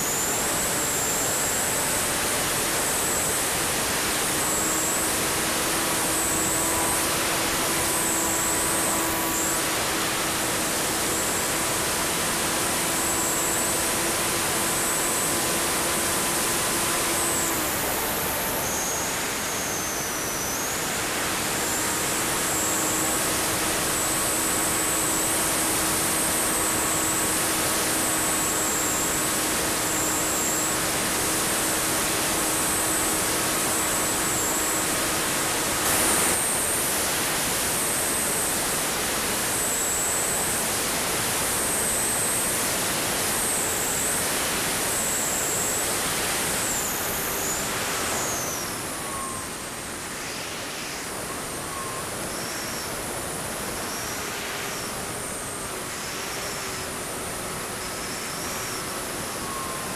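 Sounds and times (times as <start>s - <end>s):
electric motor high whine: 0.0s - 59.9s.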